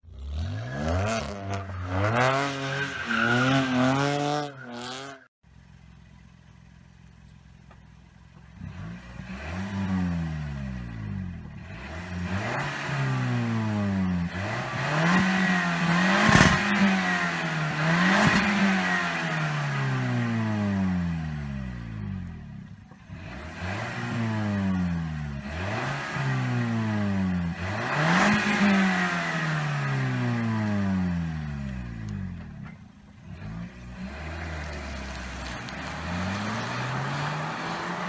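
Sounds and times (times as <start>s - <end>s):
car engine revving: 0.0s - 5.3s, 8.6s - 38.0s.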